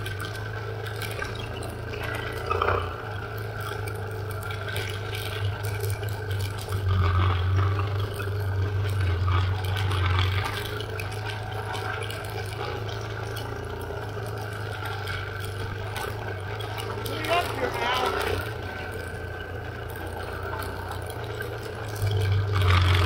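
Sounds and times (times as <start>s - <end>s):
tyres on dirt trail: 0.0s - 23.0s
vehicle engine hum: 0.0s - 23.0s.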